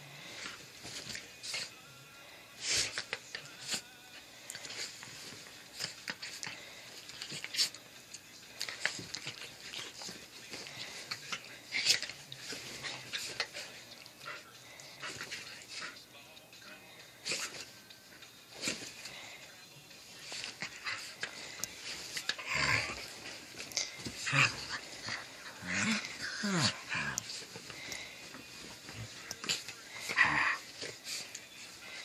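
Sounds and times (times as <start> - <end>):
dogs snuffling and panting: 2.5 - 32.0.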